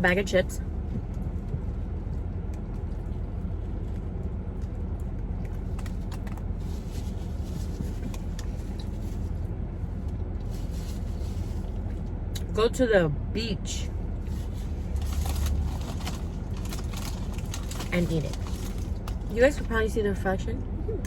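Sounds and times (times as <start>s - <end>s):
car air conditioning hum: 0.0s - 21.0s.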